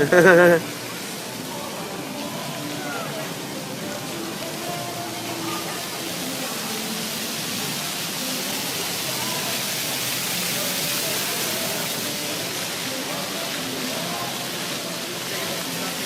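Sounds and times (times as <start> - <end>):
faint voices talking: 0.0 - 16.0.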